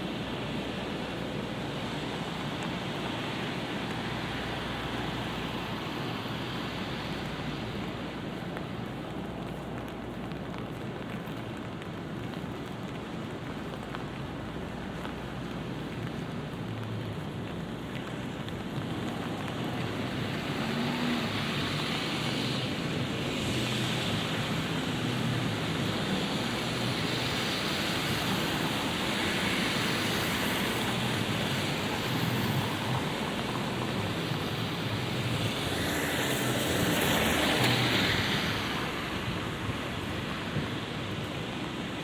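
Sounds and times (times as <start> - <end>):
car tyres hissing on wet road: 0.0 - 42.0
light rain on street: 0.0 - 42.0.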